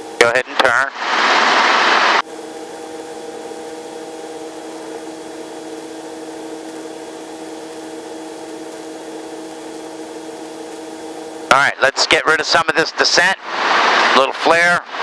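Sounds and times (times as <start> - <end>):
constant whining tones: 0.0 - 15.0
helicopter engine drone: 0.0 - 15.0.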